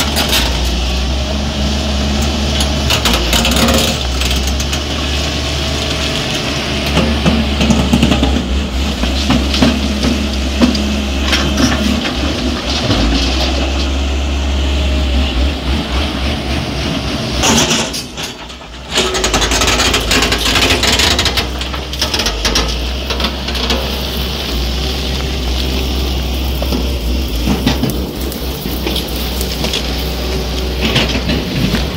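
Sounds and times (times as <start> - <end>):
excavator diesel engine drone: 0.0 - 31.9.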